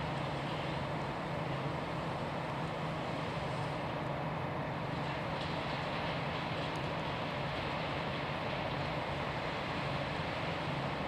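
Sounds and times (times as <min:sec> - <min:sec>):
train drone and rumble: 0:00.0 - 0:11.0.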